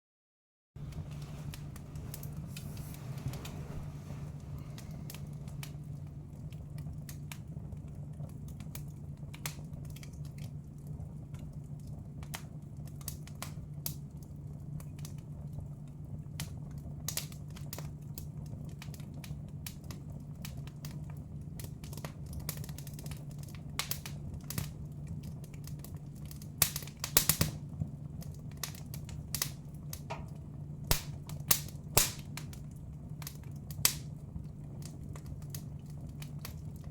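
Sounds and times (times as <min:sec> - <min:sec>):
steady low hum: 0:00.8 - 0:36.9
wood fire crackling and popping: 0:00.8 - 0:36.9.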